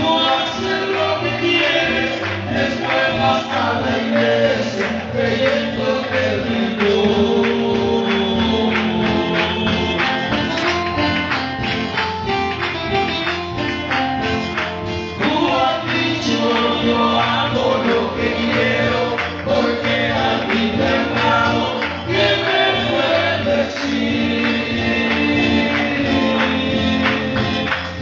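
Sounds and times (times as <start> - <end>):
voices singing: 0.0 - 11.0, 15.1 - 28.0
guitar: 0.0 - 28.0
hand percussion beat: 0.0 - 28.0
keyboard: 0.0 - 28.0.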